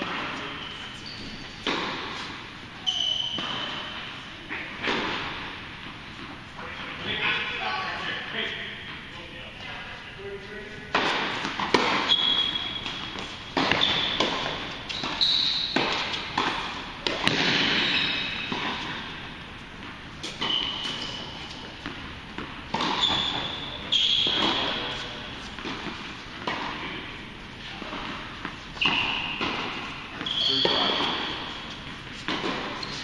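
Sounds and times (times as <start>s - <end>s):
shoes squeaking on court: 0.0s - 33.0s.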